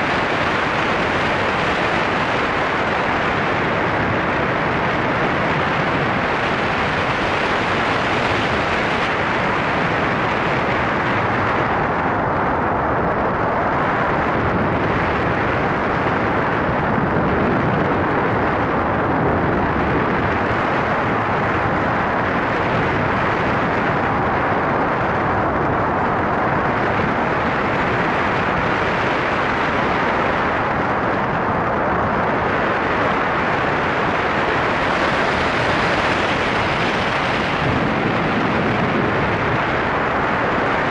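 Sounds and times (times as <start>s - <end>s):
aircraft engine and propeller roar: 0.0s - 40.9s
rushing air: 0.0s - 40.9s.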